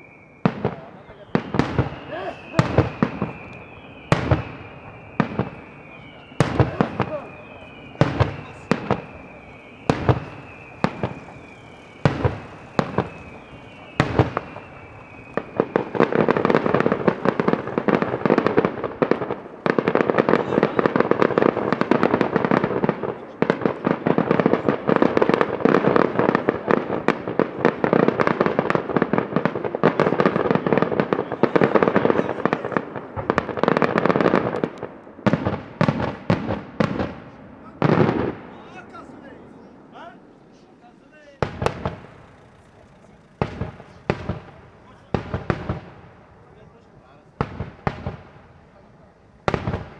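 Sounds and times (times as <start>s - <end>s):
rapid-fire firework barrage: 0.0s - 49.9s
whistling fireworks: 0.0s - 49.9s.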